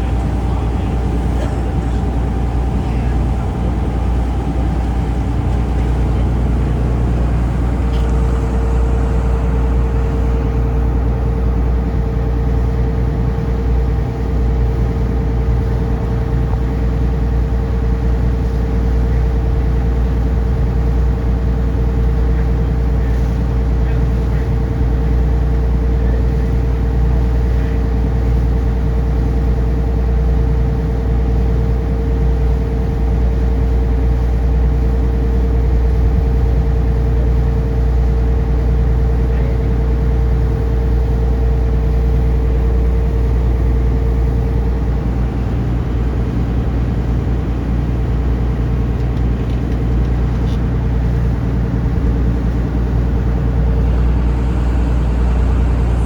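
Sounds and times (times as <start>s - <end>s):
boat engine droning: 0.0s - 56.0s
steady whine: 0.0s - 56.0s.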